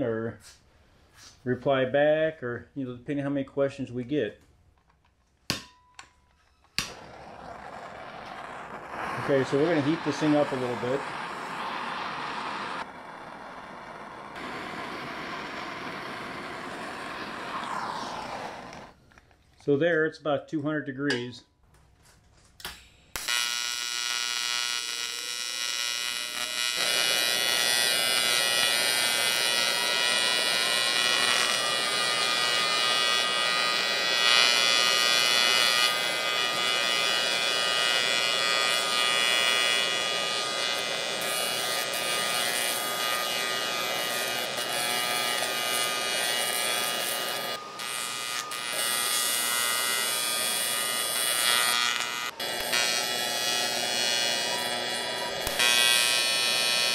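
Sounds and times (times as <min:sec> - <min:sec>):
welding arc hissing buzz: 0:06.8 - 0:19.0, 0:23.1 - 0:56.9.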